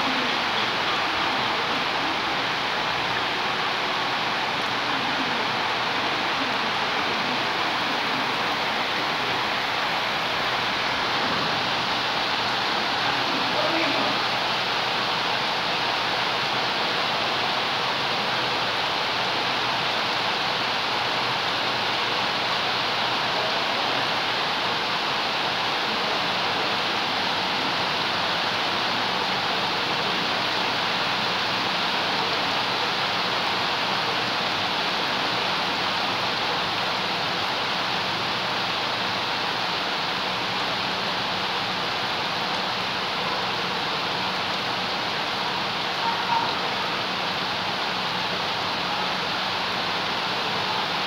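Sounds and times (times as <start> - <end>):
rain on leaves: 0.0 - 51.0.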